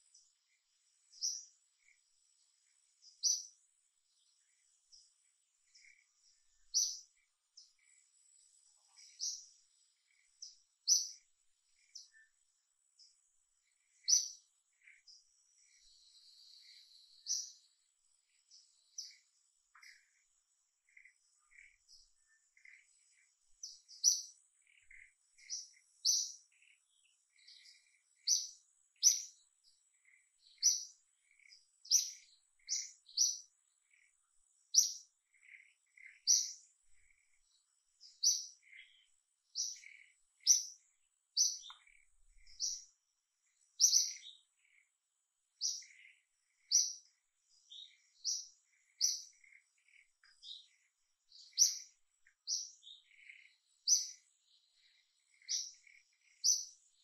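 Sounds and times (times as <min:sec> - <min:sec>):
bird calling with high chirps: 0:00.0 - 0:57.0
faint chirps of other birds: 0:00.0 - 0:57.0.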